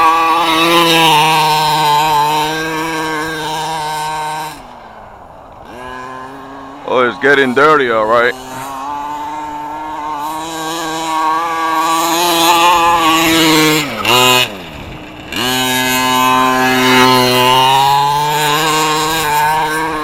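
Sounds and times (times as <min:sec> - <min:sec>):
two-stroke engine revving high: 0:00.0 - 0:20.0.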